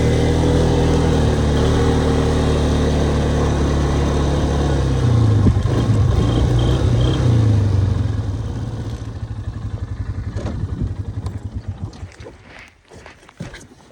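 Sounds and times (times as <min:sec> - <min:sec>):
atv engine running: 0:00.0 - 0:12.7.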